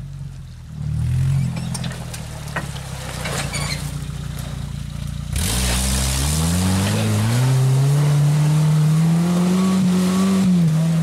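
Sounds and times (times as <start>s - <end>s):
car engine running low: 0.0s - 11.0s
tyres splashing through muddy water: 1.5s - 11.0s.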